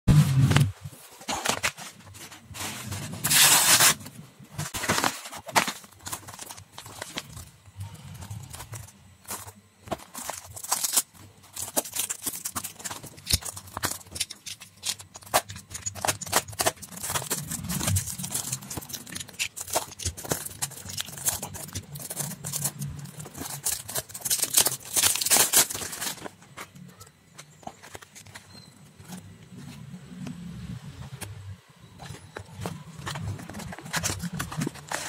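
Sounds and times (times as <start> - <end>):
cellophane and packaging crinkling: 1.0 - 29.9, 32.0 - 35.0.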